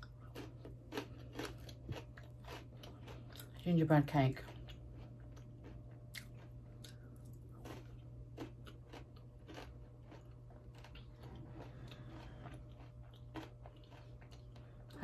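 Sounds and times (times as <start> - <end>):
person chewing: 0.0 - 3.6, 4.4 - 15.0
low hum: 0.0 - 15.0.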